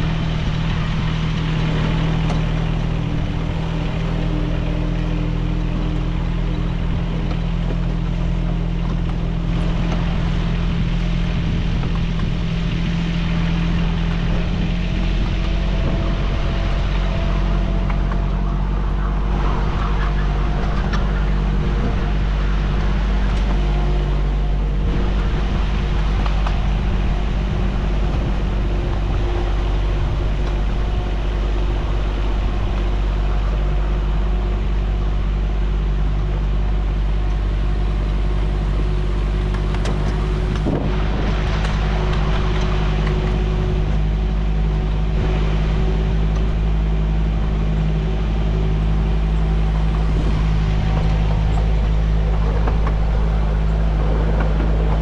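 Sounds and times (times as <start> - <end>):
locomotive engine low hum: 0.0 - 55.0.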